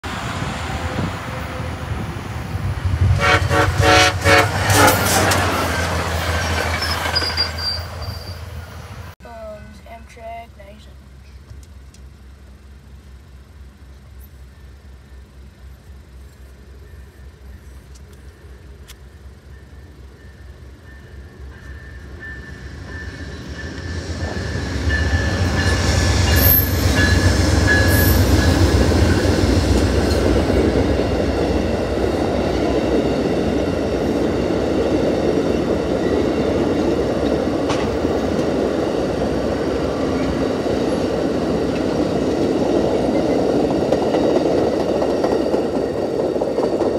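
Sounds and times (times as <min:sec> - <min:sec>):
train wheels on rails: 0:00.0 - 0:09.6, 0:11.0 - 0:46.9
diesel locomotive rumble: 0:00.0 - 0:46.9.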